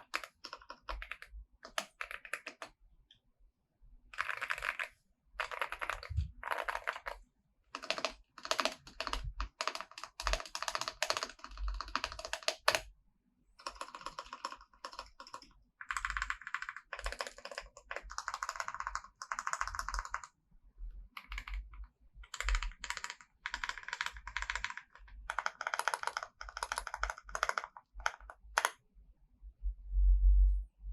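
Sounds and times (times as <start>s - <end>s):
mechanical keyboard typing: 0.0s - 2.7s, 4.2s - 7.2s, 7.8s - 12.9s, 13.6s - 20.3s, 21.2s - 28.8s.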